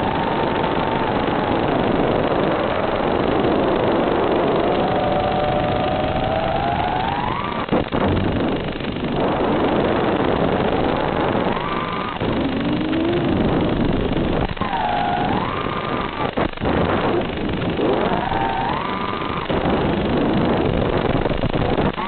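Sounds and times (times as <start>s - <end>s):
drone motors whining: 0.0s - 8.5s, 9.2s - 22.0s.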